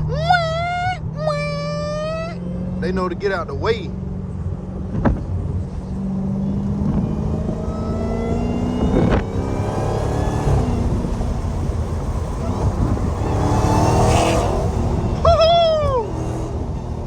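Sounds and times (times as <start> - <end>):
car engine accelerating: 0.0 - 17.0
exhaust cracks: 0.0 - 17.0.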